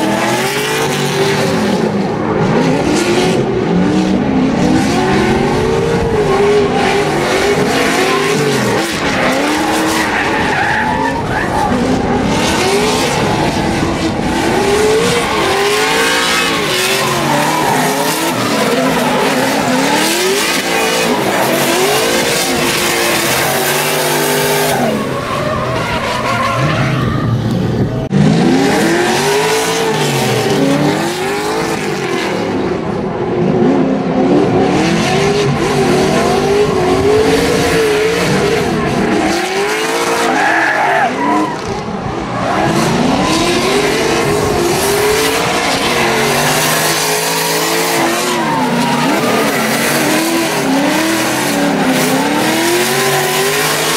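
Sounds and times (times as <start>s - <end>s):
car engines revving hard: 0.0s - 53.9s.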